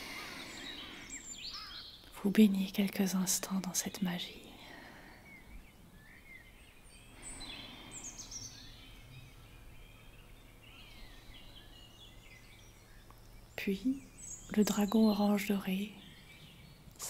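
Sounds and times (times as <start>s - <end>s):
faint bird chirps and whistles: 0.0s - 2.2s, 5.1s - 17.0s
soft steady hiss: 0.0s - 17.0s.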